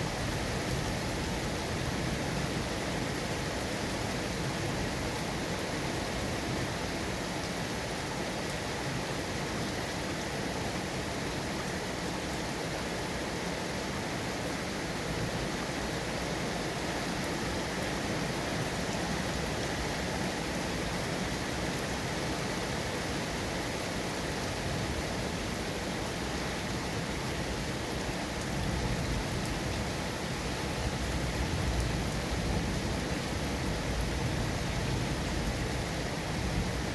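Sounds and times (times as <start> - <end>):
steady rainfall: 0.0 - 36.9.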